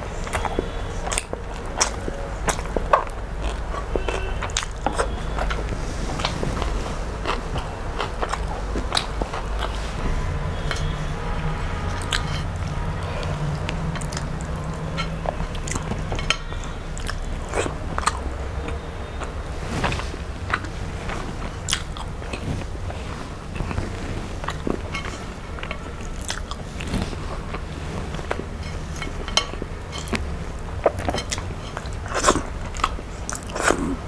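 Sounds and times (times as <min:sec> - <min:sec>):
person chewing food: 0:00.1 - 0:10.0, 0:11.6 - 0:34.0.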